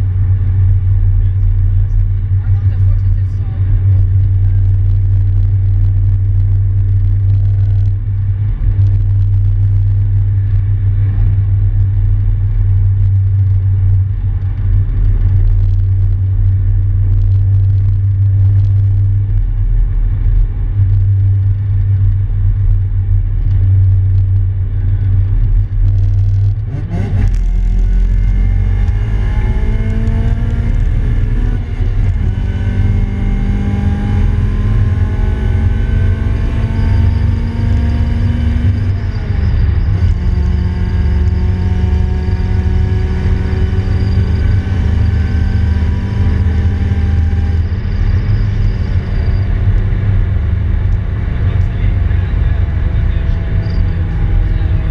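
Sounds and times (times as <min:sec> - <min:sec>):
car engine droning and revving: 0:00.0 - 0:54.9.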